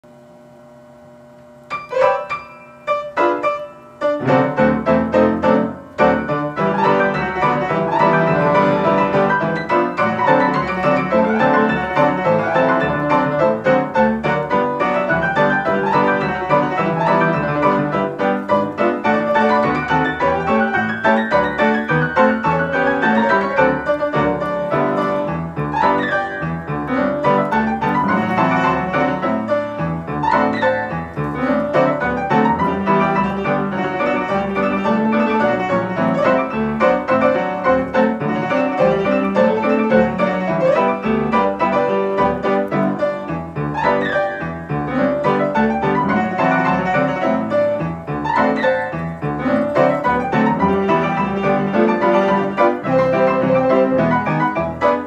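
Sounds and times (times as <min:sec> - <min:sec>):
player piano playing: 0:01.5 - 0:55.0.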